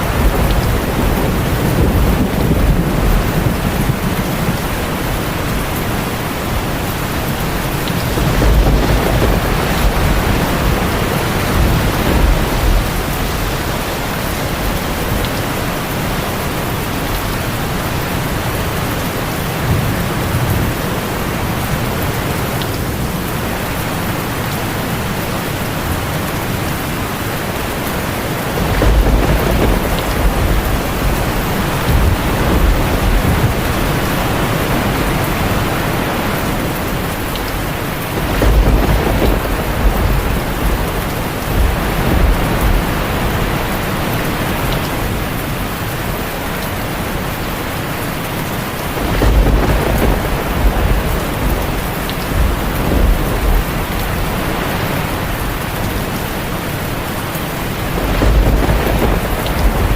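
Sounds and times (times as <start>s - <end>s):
heavy rain on a tin roof: 0.0s - 59.9s
thunder rumbling: 0.0s - 59.9s.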